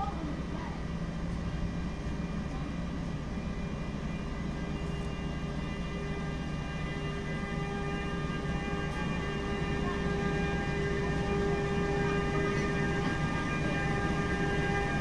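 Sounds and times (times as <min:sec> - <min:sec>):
low diesel rumble: 0:00.0 - 0:15.0.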